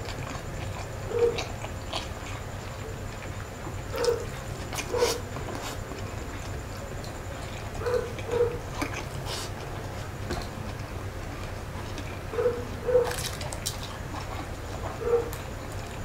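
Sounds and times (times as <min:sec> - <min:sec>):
chewing: 0:00.0 - 0:16.0
steady low hum: 0:00.0 - 0:16.0.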